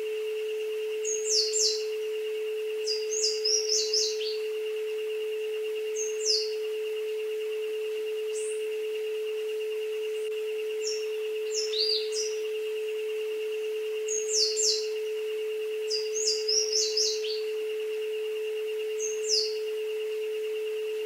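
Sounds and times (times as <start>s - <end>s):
higher wavering tone: 0.0s - 21.0s
steady pure tone: 0.0s - 21.0s
birds chirping: 0.9s - 20.1s.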